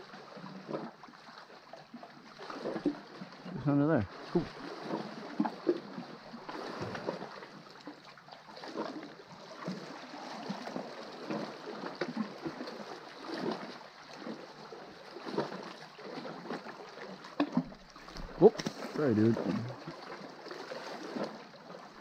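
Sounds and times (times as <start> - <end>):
small waves lapping against rock: 0.0 - 22.0.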